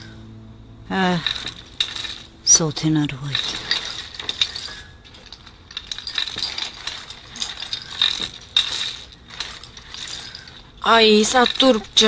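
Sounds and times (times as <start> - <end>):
small objects clicking and clinking: 1.1 - 2.6, 3.2 - 12.0.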